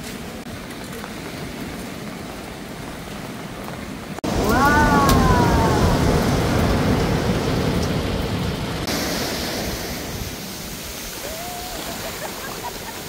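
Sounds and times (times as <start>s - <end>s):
surf washing up a beach: 0.0s - 13.0s.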